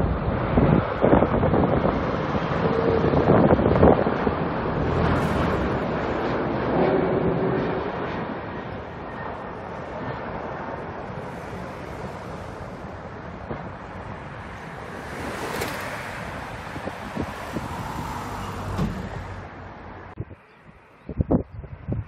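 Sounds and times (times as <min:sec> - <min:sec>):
jet engines roaring: 0:00.0 - 0:20.2.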